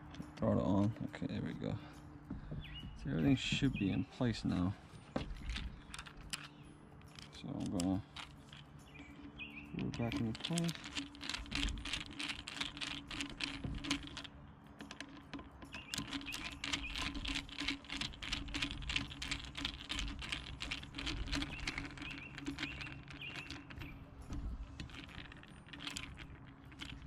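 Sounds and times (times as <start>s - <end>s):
plastic and metal parts clicking: 2.7s - 27.0s.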